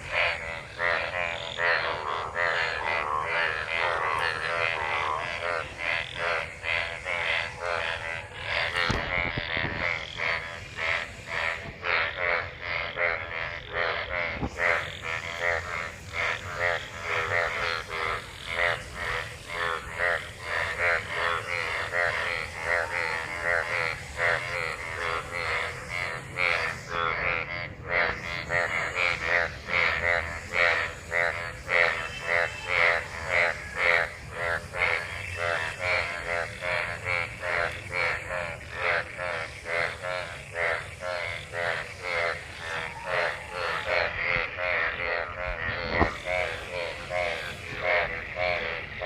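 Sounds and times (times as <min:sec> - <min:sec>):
chorus of frogs croaking: 0:00.0 - 0:49.0.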